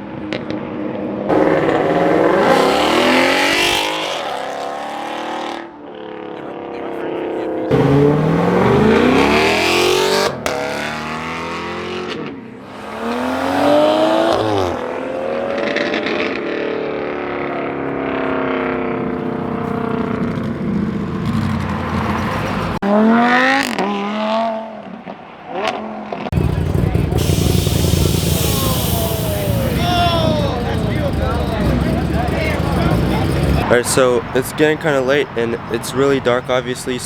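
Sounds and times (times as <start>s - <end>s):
car engines accelerating hard: 0.1s - 37.0s.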